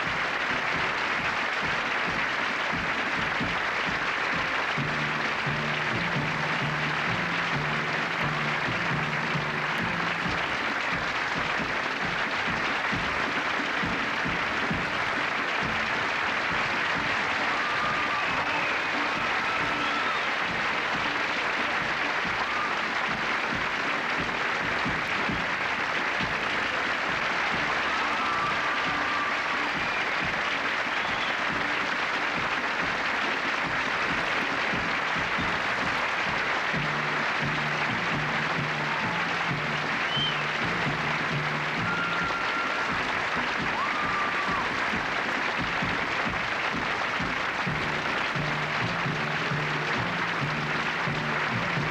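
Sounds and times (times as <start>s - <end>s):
audience applauding: 0.0s - 51.9s.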